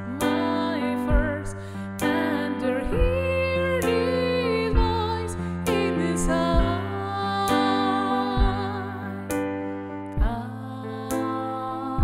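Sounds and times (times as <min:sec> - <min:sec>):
woman singing with vibrato: 0:00.0 - 0:09.3, 0:10.2 - 0:12.0
piano chords: 0:00.0 - 0:12.0.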